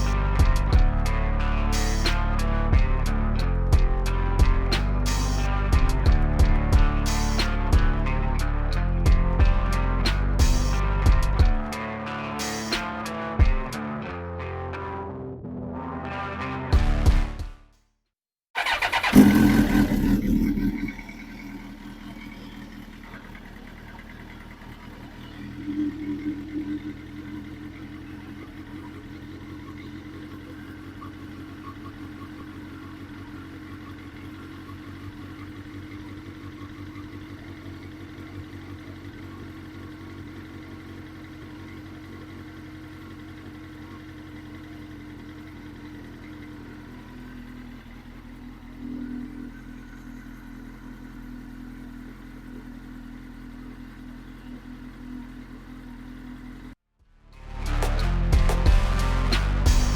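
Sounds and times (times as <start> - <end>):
motorcycle engine idling: 0.0 - 13.9, 18.6 - 59.9.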